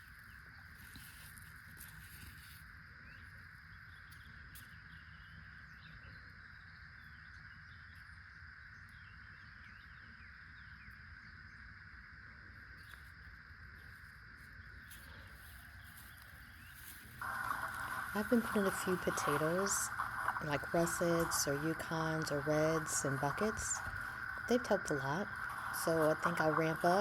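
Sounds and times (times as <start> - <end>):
insect drone: 0.0 - 27.0.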